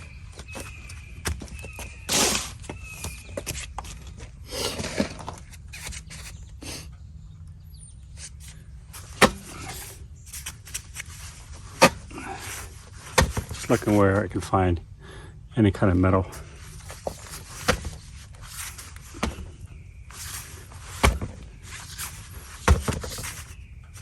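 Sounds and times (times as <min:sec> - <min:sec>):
wheel knocking and scuffing: 0:00.0 - 0:06.2, 0:08.2 - 0:14.0, 0:16.6 - 0:24.0.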